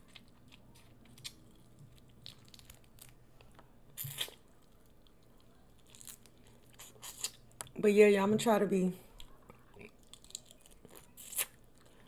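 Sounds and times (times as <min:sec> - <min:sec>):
quiet chewing: 0:00.0 - 0:07.8, 0:09.1 - 0:12.0.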